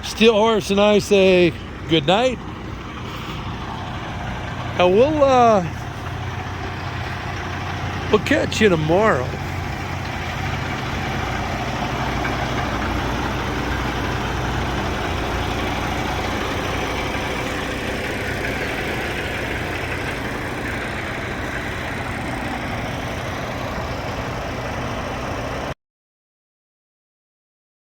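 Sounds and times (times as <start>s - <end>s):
diesel truck engine idling: 0.0s - 25.8s.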